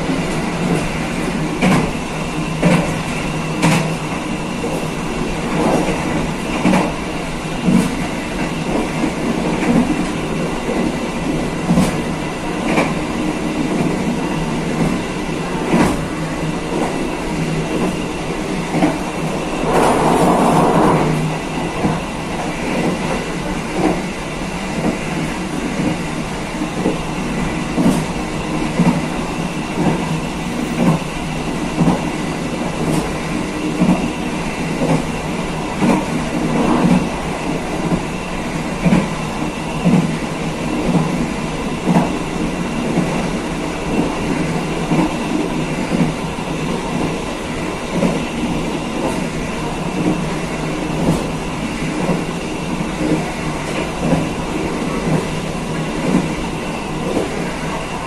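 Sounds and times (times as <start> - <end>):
train rumble and hiss: 0.0 - 58.0.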